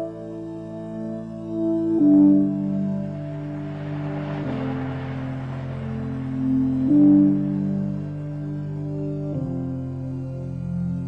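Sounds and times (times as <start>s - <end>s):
ambient keyboard chords: 0.0s - 11.0s.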